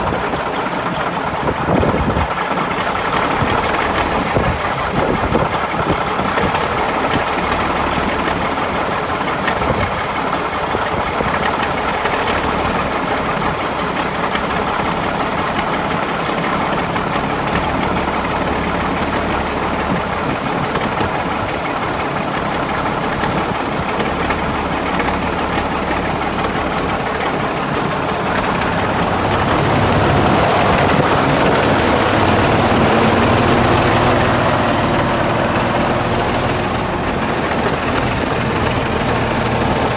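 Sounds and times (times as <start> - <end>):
crawler tractor engine running: 0.0 - 39.9.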